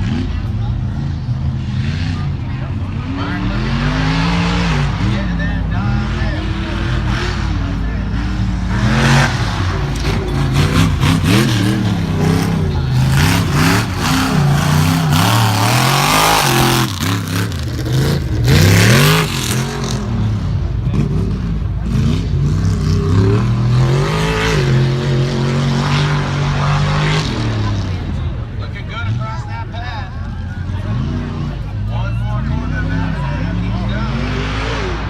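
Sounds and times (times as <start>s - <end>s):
truck engine revving hard: 0.0s - 35.0s.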